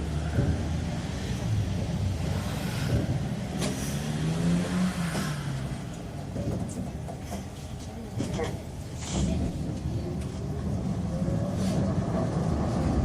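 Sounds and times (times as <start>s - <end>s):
tram running: 0.0s - 13.0s.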